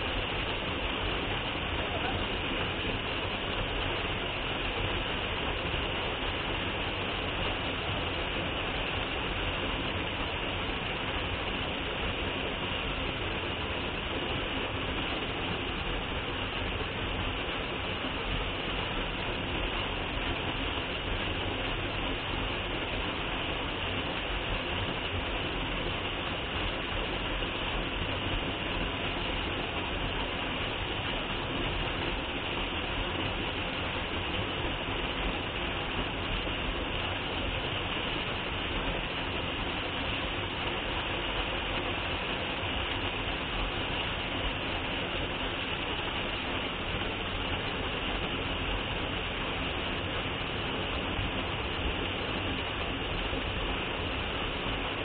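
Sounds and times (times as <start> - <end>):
waterfall pouring into a pool: 0.0 - 55.0.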